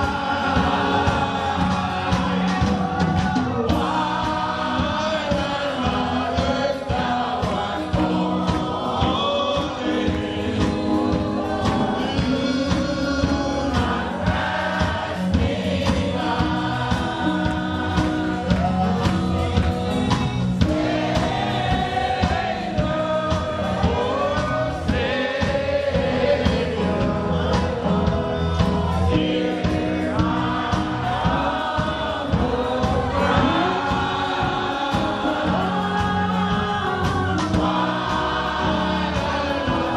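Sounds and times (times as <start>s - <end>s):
gospel choir singing with band: 0.0s - 39.9s.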